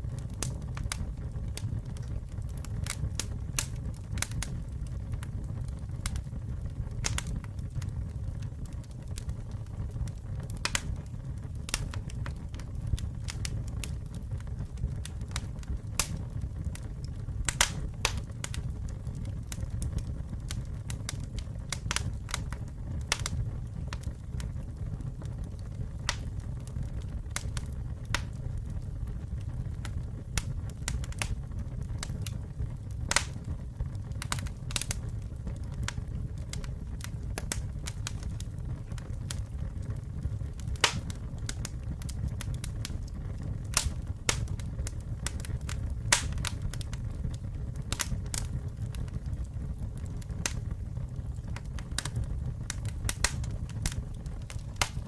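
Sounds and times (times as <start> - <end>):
campfire crackling and popping: 0.0 - 55.0
low rumble of flame: 0.0 - 55.0.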